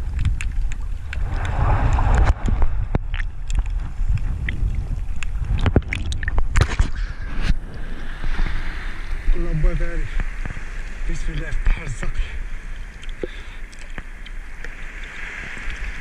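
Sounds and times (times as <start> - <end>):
underwater clicks and crackles: 0.0 - 9.3, 10.0 - 16.0
underwater low rumble: 0.0 - 16.0.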